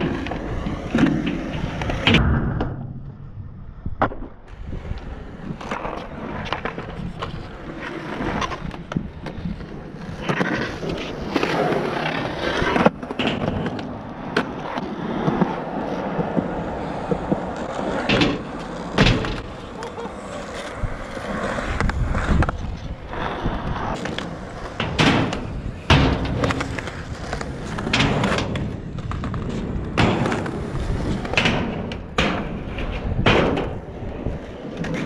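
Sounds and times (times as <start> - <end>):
skateboard clacks and knocks: 0.0 - 2.8, 4.0 - 35.0
skateboard wheels rolling on concrete: 0.0 - 35.0.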